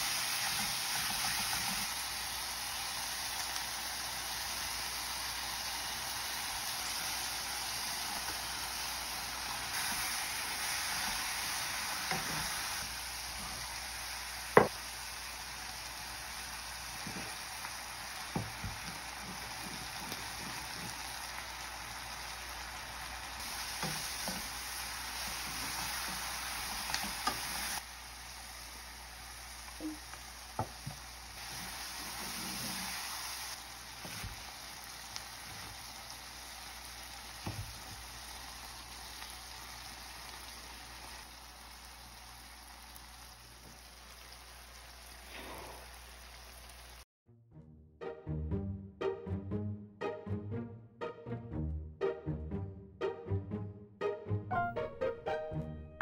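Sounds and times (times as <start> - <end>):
meat sizzling in a frying pan: 0.0 - 47.0.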